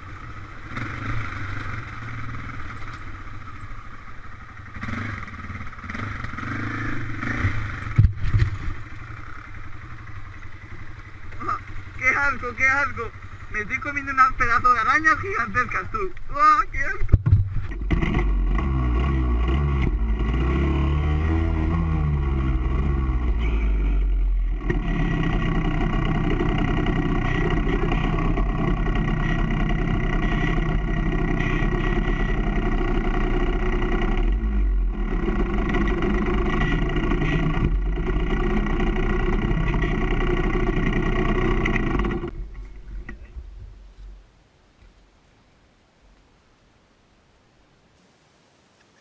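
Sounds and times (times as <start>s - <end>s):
off-road vehicle engine revving: 0.0s - 16.1s, 17.5s - 42.4s.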